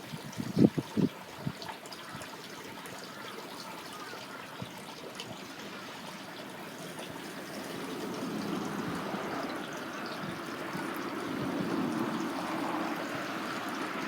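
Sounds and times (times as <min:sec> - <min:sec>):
water flowing in channel: 0:00.0 - 0:14.0.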